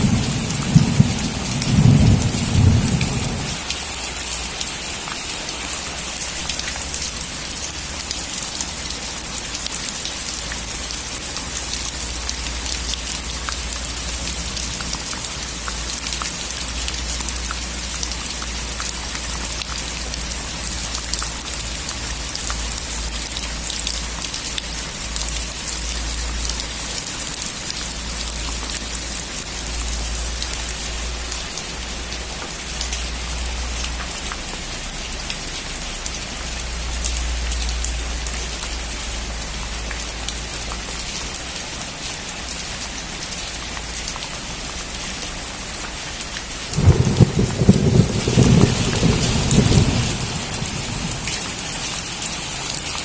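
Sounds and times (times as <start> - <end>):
heavy rain on a metal roof: 0.0 - 53.0.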